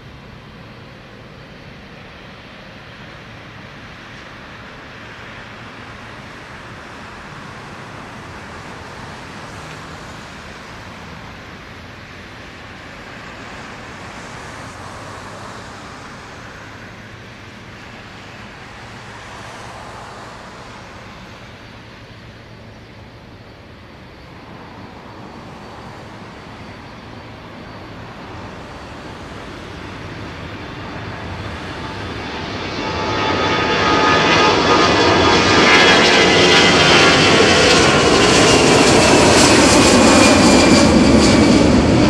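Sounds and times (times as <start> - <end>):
distant jet engines roaring: 0.0 - 42.0.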